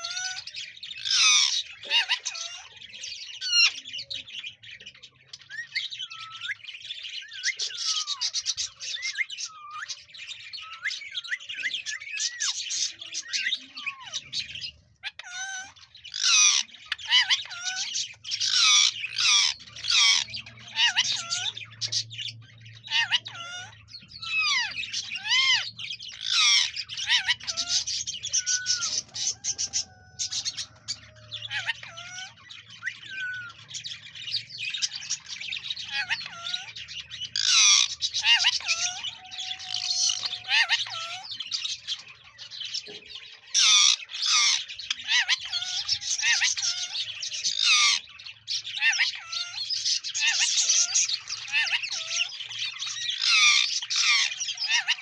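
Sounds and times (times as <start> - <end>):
parakeet chirping and squawking: 0.0 - 55.0.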